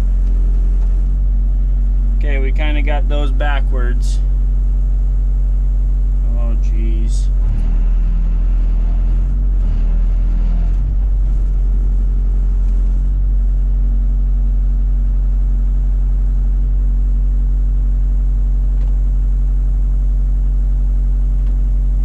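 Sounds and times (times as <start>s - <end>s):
excavator engine humming: 0.0s - 22.0s.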